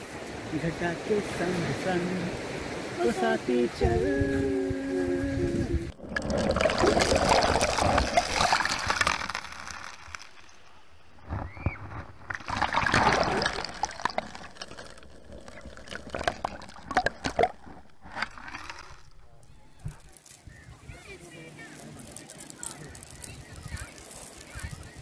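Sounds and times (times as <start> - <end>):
sea wash over shells and pebbles: 0.0 - 3.7, 5.8 - 11.0, 11.9 - 25.0.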